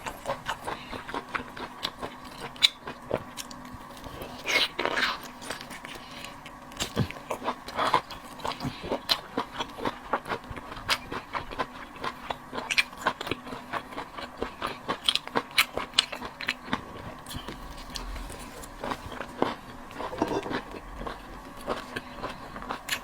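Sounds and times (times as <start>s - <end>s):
faint steady hum: 0.0s - 23.0s
person chewing and crunching: 0.0s - 23.0s.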